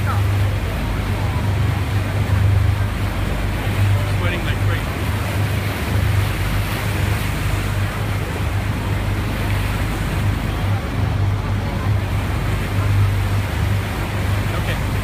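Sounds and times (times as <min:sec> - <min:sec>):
boat engine droning: 0:00.0 - 0:15.0
water noise: 0:00.0 - 0:15.0
wind: 0:00.0 - 0:15.0.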